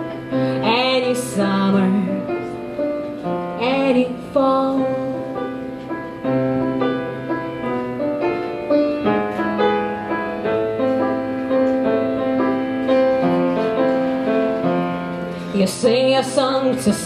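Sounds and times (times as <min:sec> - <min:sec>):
solo piano playing slow chords: 0:00.0 - 0:17.0.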